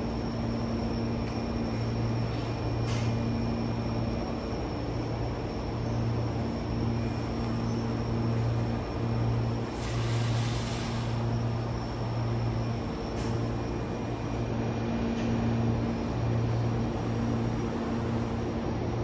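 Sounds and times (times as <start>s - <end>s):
electric train hum: 0.0s - 19.0s.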